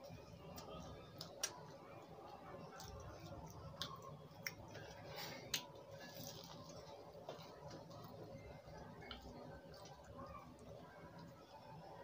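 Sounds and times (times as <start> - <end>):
faint crunchy chewing: 0.0 - 12.0.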